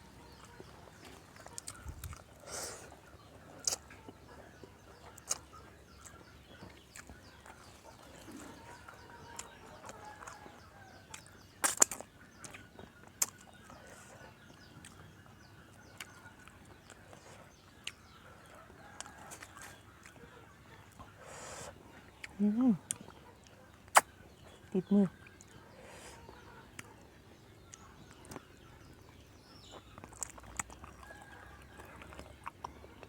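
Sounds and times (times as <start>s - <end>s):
faint chicken calls: 0.0s - 33.0s.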